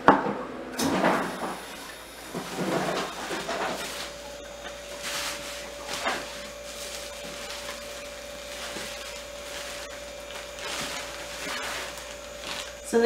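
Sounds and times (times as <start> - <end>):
bubble wrap crinkling: 2.2 - 13.0.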